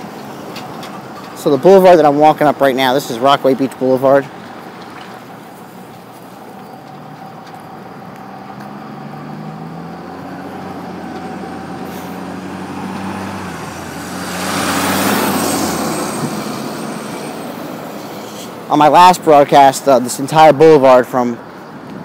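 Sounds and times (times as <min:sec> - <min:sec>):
heavy vehicle engine passing: 0:00.0 - 0:20.4.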